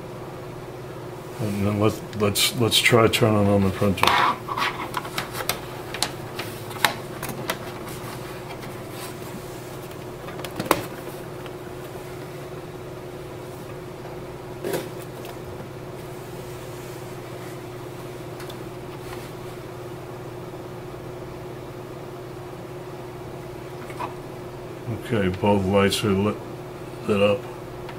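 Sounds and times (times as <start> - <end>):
steady background hum: 0.0 - 27.9.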